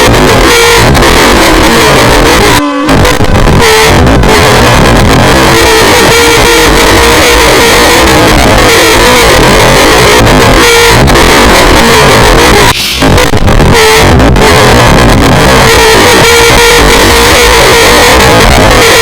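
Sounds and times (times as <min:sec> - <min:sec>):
distorted scream: 0:00.0 - 0:19.0.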